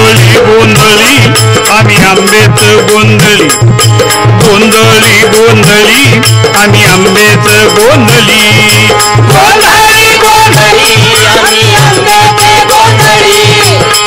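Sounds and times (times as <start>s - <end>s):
hand drums beating: 0.0s - 14.0s.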